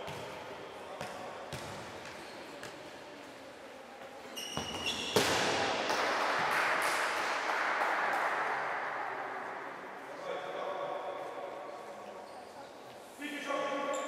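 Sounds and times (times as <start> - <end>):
crowd noise in a hall: 0.0 - 14.0.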